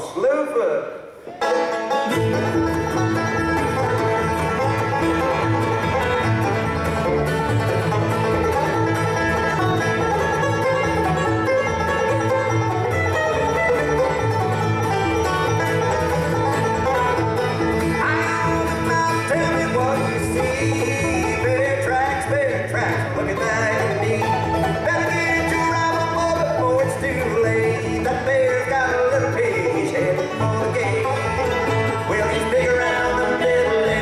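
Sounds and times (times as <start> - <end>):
bluegrass band playing: 0.0 - 34.0.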